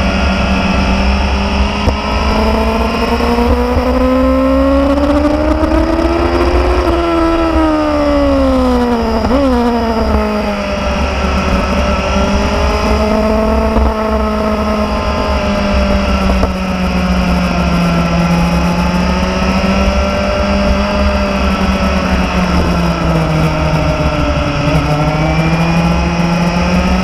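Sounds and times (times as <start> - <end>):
low wind rumble: 0.0 - 27.0
motorcycle engine revving: 0.0 - 27.0.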